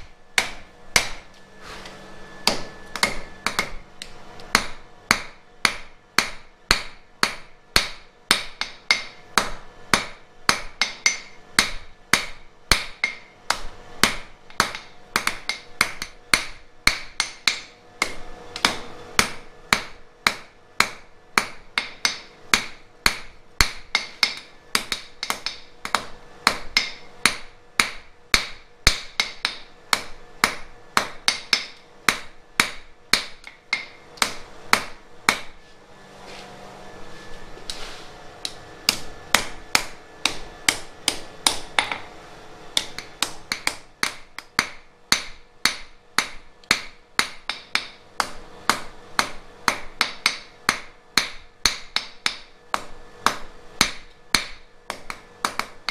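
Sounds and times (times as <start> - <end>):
hammer striking steel on anvil: 0.0 - 1.4, 2.4 - 35.6, 42.8 - 55.9.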